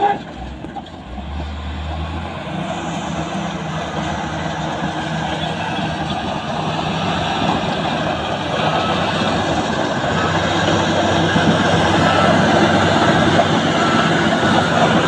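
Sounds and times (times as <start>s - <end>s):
bulldozer diesel engine: 0.0s - 15.0s
steel tracks clanking: 0.0s - 15.0s.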